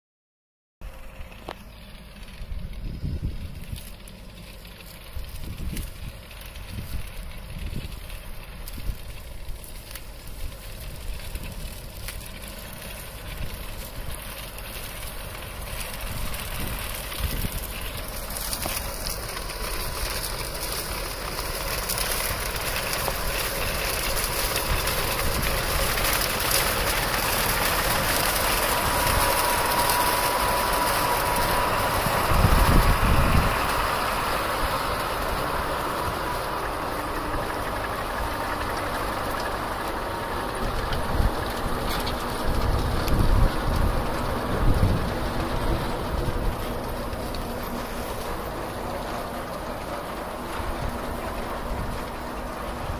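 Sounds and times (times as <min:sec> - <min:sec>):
deep rumble: 0:00.8 - 0:52.9
harvesting machinery running: 0:00.8 - 0:52.9.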